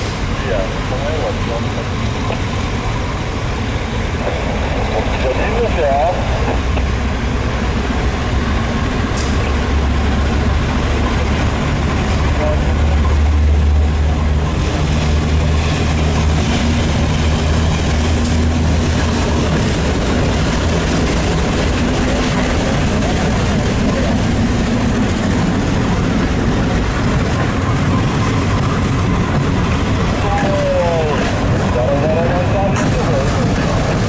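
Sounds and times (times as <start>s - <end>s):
locomotive engine drone: 0.0s - 34.0s
train rumbling past: 0.0s - 34.0s.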